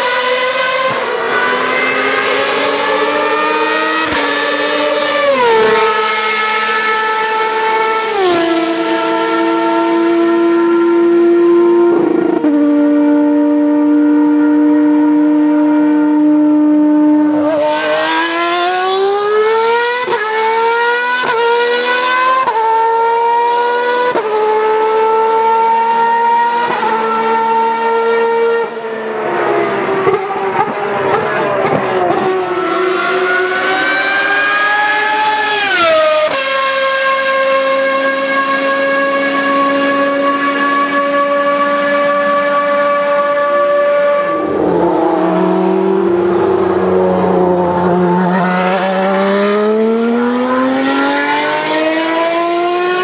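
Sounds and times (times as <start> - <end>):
racing engine accelerating: 0.0 - 53.0.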